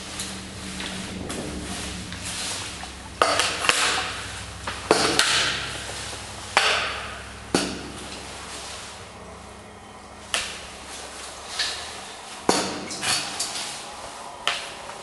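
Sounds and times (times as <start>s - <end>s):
water splashing: 0.0s - 14.9s.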